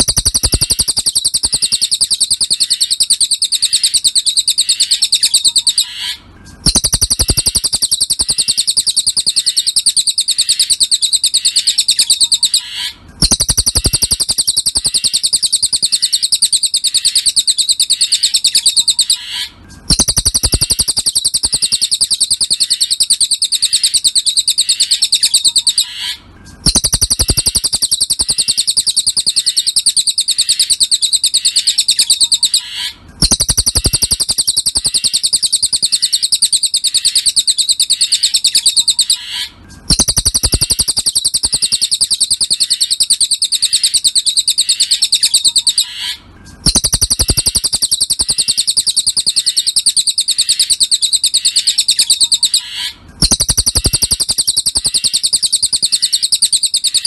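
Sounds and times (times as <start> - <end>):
bird song high-pitched trill: 0.0 - 57.0.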